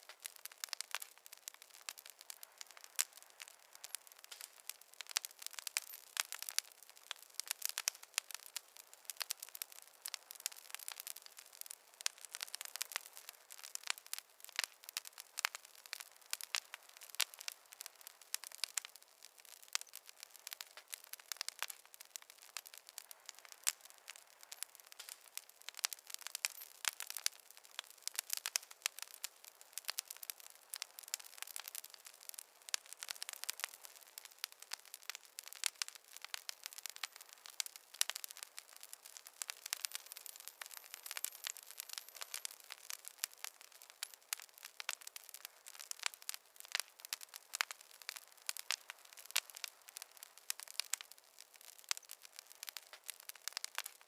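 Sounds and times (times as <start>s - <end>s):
faint hiss: 0.0s - 54.0s
wood fire crackling: 0.0s - 54.0s.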